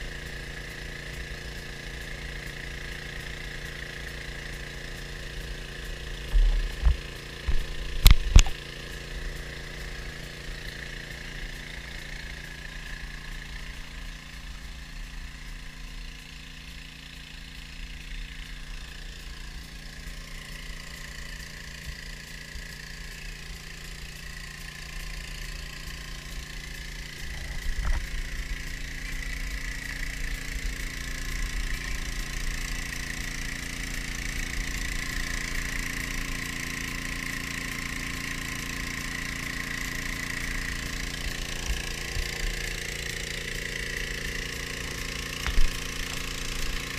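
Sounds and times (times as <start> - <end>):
small gas engine running: 0.0 - 46.9.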